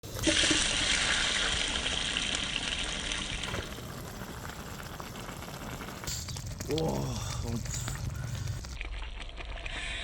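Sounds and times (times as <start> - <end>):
water gushing: 0.0 - 10.0.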